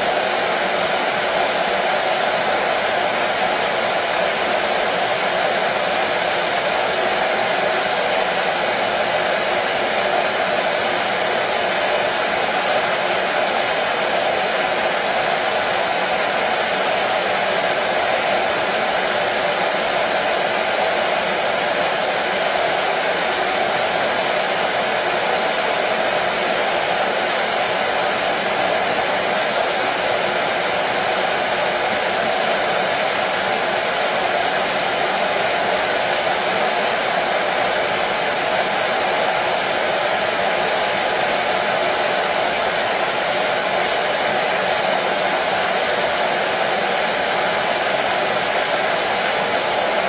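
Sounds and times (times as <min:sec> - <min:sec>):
washing machine running: 0:00.0 - 0:50.0.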